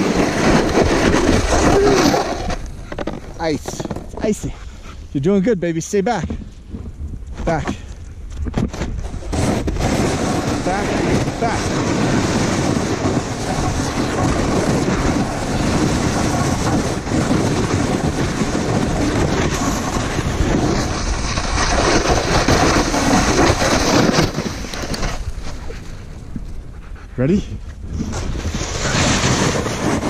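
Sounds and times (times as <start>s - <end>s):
snowboard scraping over snow: 0.0s - 6.5s, 8.4s - 26.4s, 27.2s - 30.0s.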